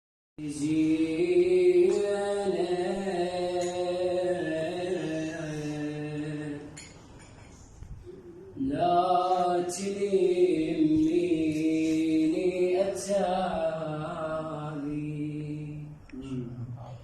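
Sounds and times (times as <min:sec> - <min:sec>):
man chanting: 0:00.4 - 0:06.7, 0:08.2 - 0:17.0.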